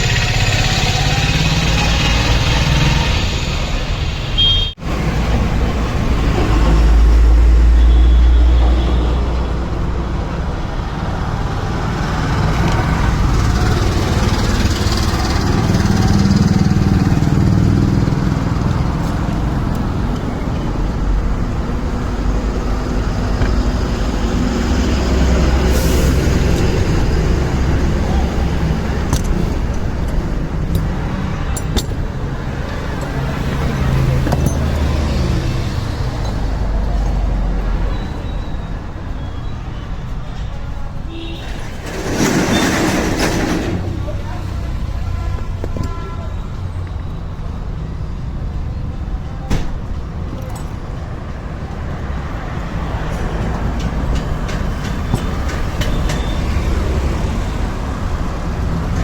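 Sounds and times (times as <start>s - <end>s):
vehicle engines and road traffic: 0.0s - 59.0s.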